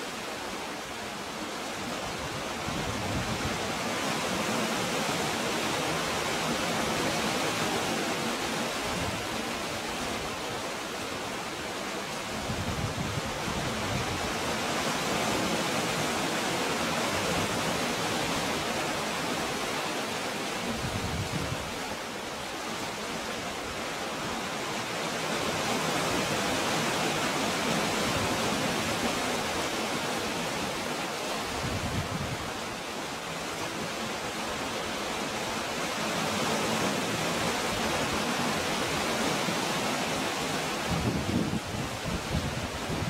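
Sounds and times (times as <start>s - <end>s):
sea water washing over rocks: 0.0s - 43.0s.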